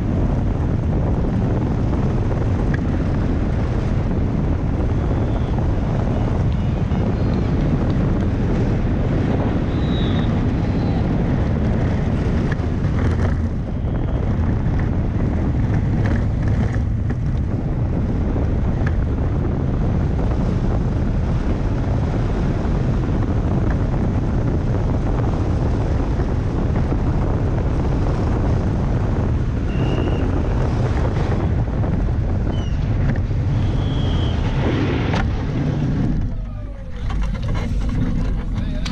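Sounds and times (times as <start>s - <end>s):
wheels rolling on asphalt: 0.0s - 38.9s
wind rushing over microphone: 0.0s - 38.9s.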